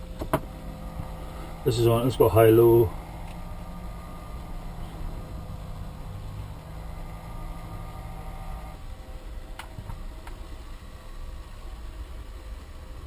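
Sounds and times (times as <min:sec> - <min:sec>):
cooling fans whirring: 0:00.0 - 0:13.0
low hum: 0:00.0 - 0:13.0.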